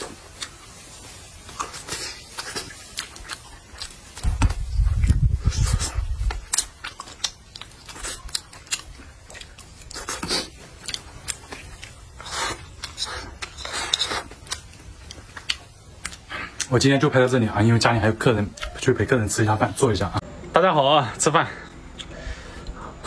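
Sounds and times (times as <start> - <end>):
biting and chewing food: 0.0 - 20.2.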